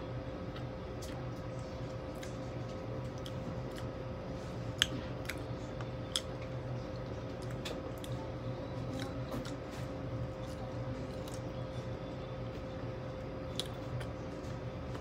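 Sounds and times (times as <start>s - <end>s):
chewing crunches and mouth noises: 0.4s - 15.0s.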